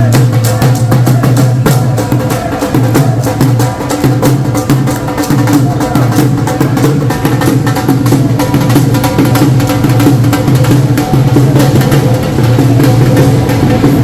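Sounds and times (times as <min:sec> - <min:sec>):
music with rapid clicking percussion: 0:00.0 - 0:14.0.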